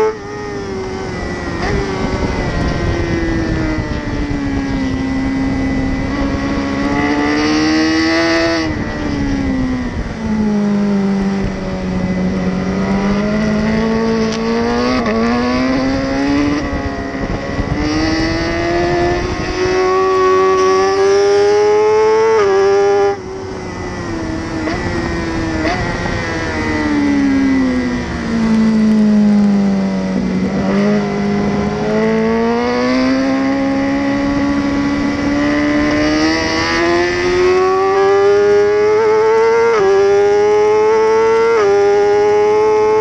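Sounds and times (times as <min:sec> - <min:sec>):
motorcycle engine revving: 0:00.0 - 0:43.0
wind rushing over microphone: 0:00.0 - 0:43.0.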